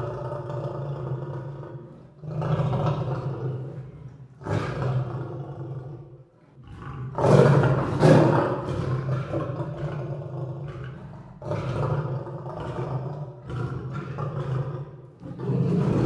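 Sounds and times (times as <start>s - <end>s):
lion roaring: 0.0s - 16.0s.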